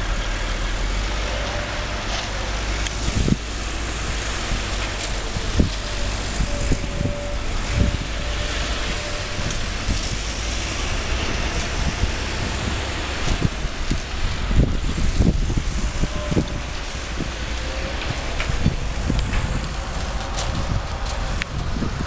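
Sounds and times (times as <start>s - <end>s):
diesel engine rumble: 0.0s - 22.0s.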